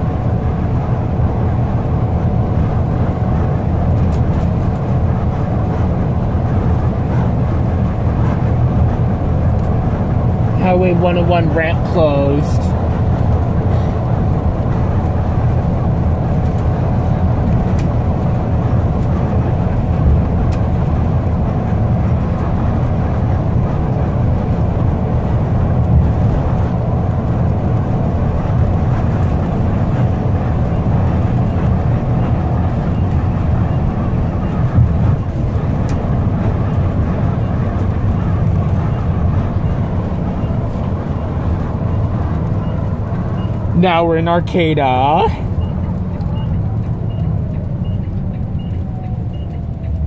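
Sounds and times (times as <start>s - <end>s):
bus engine and road rumble: 0.0s - 50.0s
faint steady whine: 0.0s - 50.0s.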